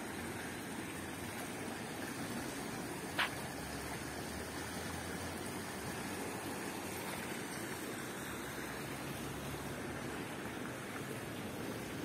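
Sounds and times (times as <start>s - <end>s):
water splashing in a fountain: 0.0s - 12.0s.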